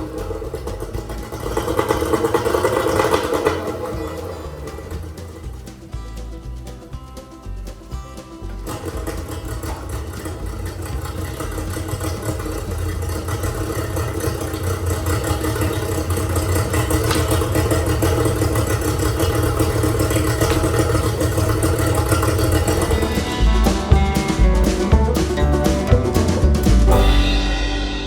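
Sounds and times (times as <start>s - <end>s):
outboard motor running: 0.0s - 6.0s, 8.5s - 27.5s.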